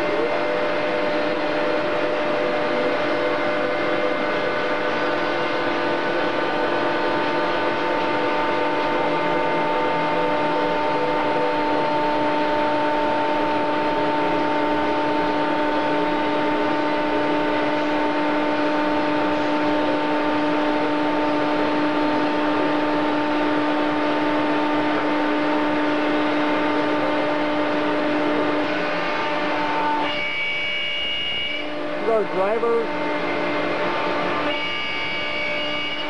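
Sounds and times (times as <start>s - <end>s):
router spindle whine: 0.0s - 36.0s.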